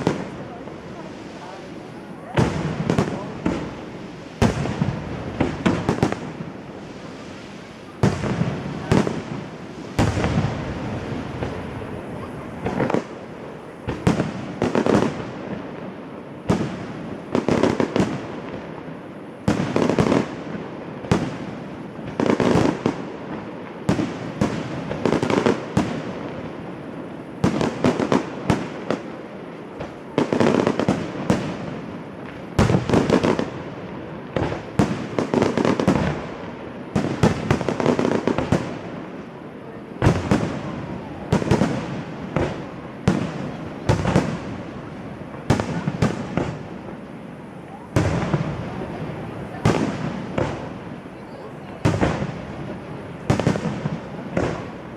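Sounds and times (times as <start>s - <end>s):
fireworks bursting: 0.0s - 54.9s.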